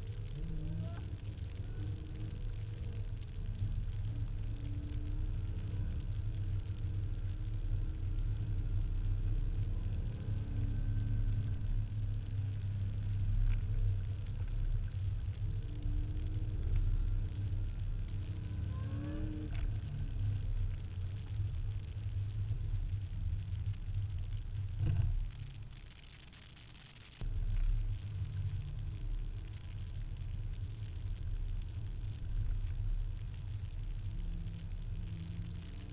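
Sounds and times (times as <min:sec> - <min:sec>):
car engine rumble: 0:00.0 - 0:35.9
faint engine revs: 0:00.0 - 0:35.9.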